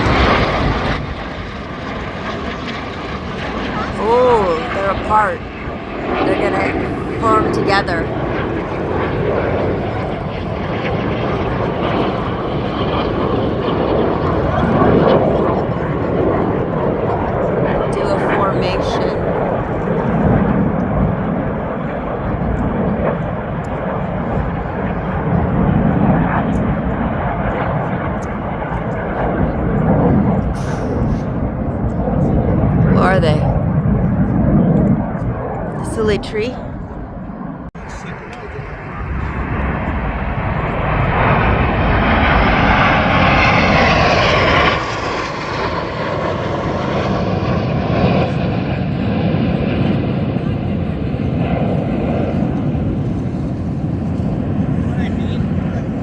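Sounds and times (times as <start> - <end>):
jets flying overhead: 0.0 - 56.0.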